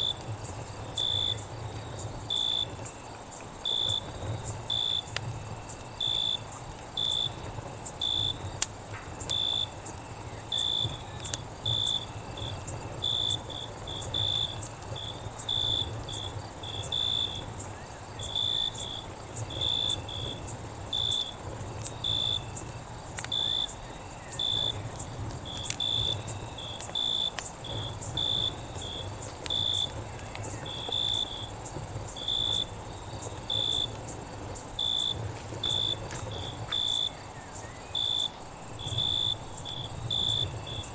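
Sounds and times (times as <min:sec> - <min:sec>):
cicada buzz: 0:00.0 - 0:40.9
crickets chirping: 0:00.0 - 0:40.9
campfire pops and crackles: 0:03.8 - 0:37.1.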